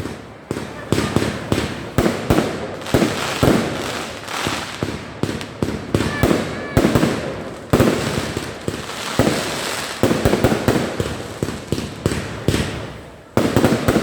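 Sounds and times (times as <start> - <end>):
fireworks bursting with echo: 0.0 - 14.0.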